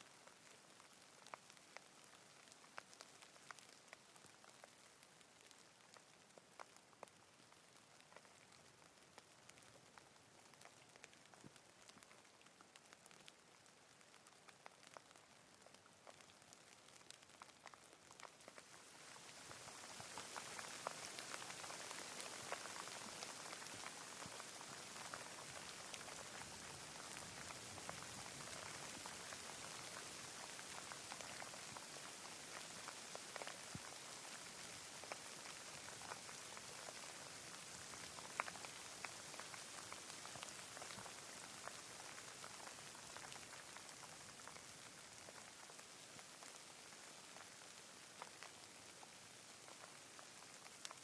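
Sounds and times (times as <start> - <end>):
rain falling: 0.1 - 51.0.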